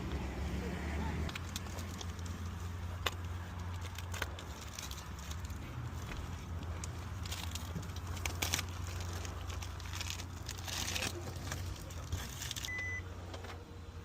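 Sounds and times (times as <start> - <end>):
crinkling and rustling handling: 1.0 - 13.7.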